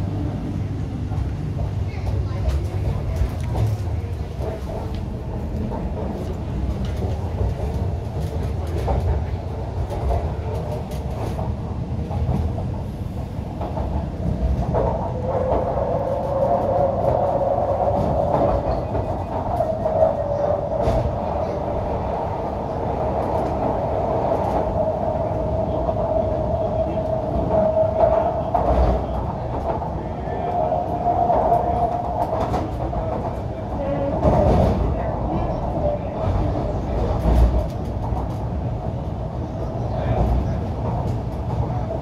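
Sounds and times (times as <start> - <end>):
train whine: 0.0 - 37.9
train rumbling on rails: 0.0 - 42.0.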